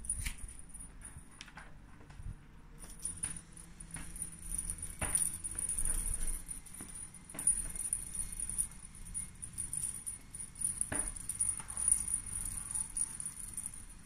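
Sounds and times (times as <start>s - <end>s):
cat toy jingling and rattling: 0.0s - 1.4s, 2.2s - 14.0s.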